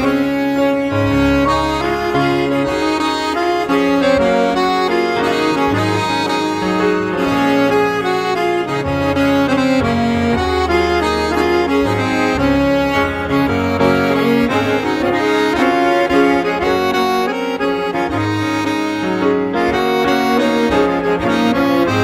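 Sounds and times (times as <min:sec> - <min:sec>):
accordion folk music: 0:00.0 - 0:22.0.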